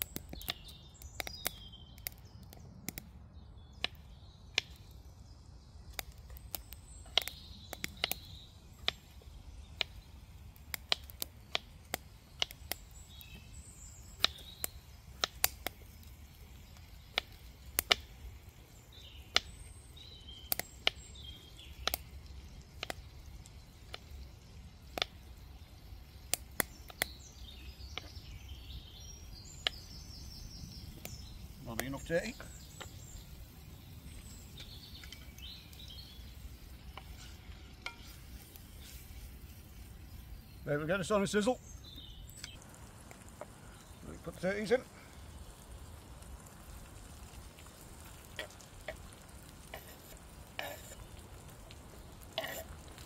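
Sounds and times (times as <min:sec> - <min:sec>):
faint birdsong: 0:00.0 - 0:53.0.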